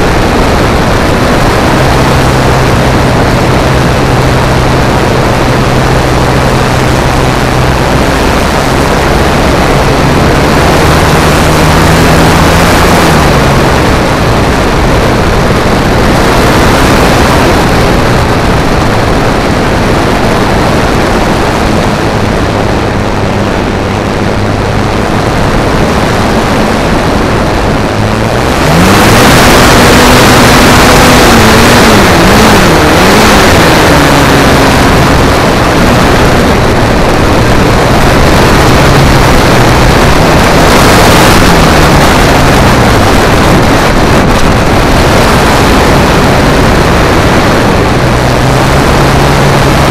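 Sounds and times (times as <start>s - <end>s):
wind rush: 0.0s - 49.9s.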